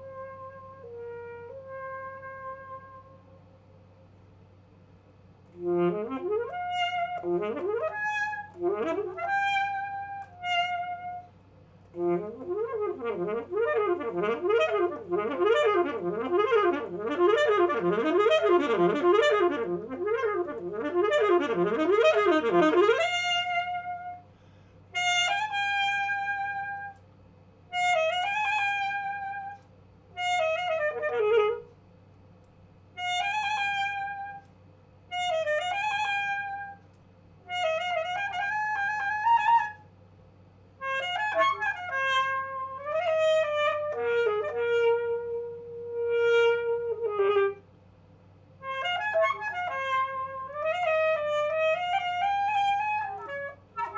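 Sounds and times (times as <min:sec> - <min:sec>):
alto saxophone playing solo: 0:00.0 - 0:03.6, 0:05.4 - 0:27.0, 0:27.7 - 0:31.8, 0:33.0 - 0:34.5, 0:35.1 - 0:39.9, 0:40.7 - 0:47.7, 0:48.6 - 0:53.9.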